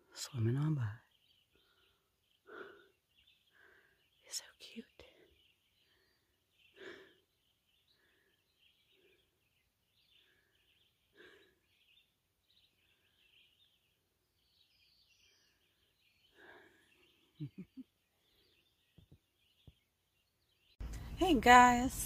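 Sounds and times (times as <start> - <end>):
faint bird chirps: 0.0 - 21.3.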